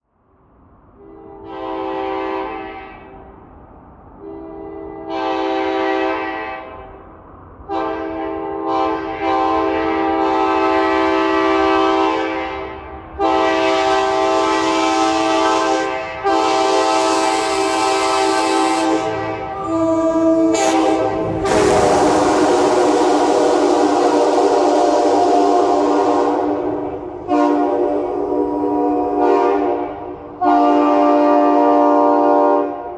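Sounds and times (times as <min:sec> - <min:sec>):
locomotive air horn chord: 0:01.0 - 0:03.3, 0:04.2 - 0:07.0, 0:07.7 - 0:32.9.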